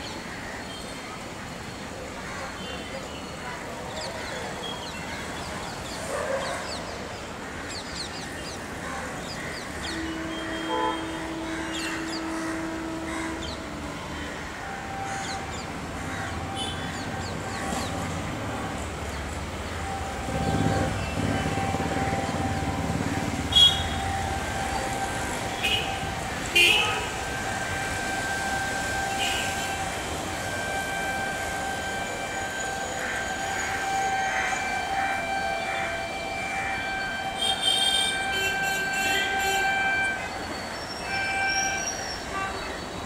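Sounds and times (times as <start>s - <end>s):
birds chirping: 2.6s - 43.0s
low rumble of approaching train: 3.4s - 43.0s
station ambience: 3.4s - 43.0s.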